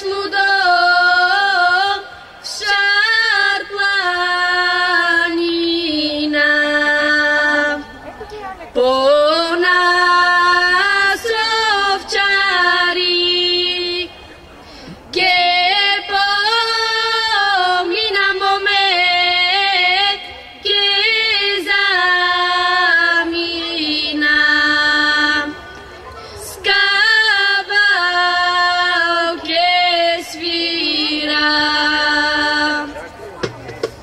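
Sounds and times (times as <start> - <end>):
women singing folk song: 0.0 - 14.2, 14.8 - 25.8, 26.4 - 33.1.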